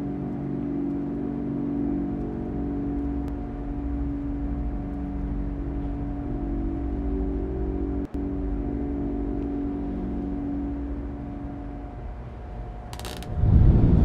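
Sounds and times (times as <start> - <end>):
dark ambient drone music: 0.0 - 14.0.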